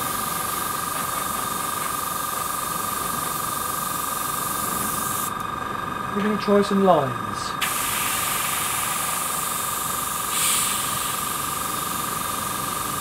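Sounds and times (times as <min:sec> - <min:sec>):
airbrush spraying paint: 0:00.0 - 0:05.4, 0:07.6 - 0:13.0
steady high whine: 0:00.0 - 0:13.0.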